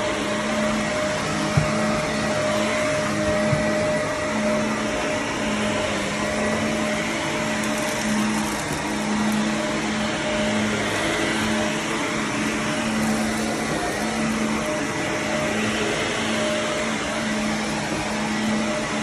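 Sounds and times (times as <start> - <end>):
vacuum cleaner running over carpet: 0.0 - 19.0.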